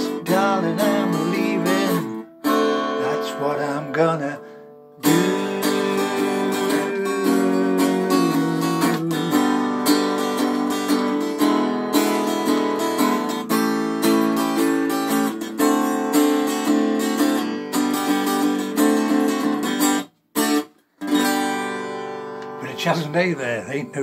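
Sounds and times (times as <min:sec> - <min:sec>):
guitar strumming chords: 0:00.0 - 0:24.0.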